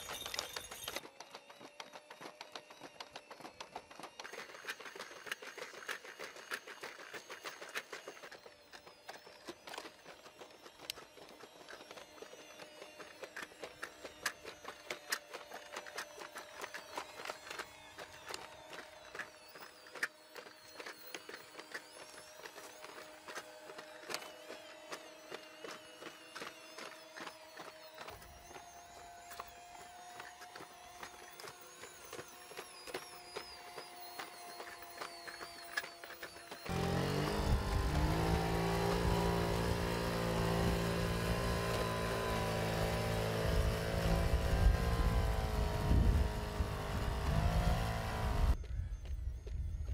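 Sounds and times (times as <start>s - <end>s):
mechanical whine: 0.0s - 49.9s.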